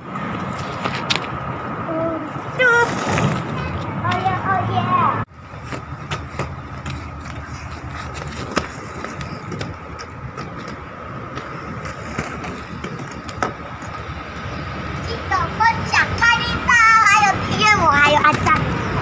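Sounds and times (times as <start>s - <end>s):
skate wheels rolling on asphalt: 0.0s - 1.7s, 5.3s - 19.0s.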